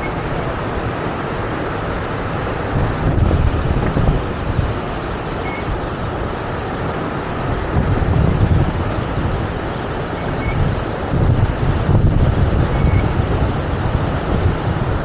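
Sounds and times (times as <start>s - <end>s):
waterfall roaring: 0.0s - 15.0s
wind rumble on microphone: 0.0s - 15.0s.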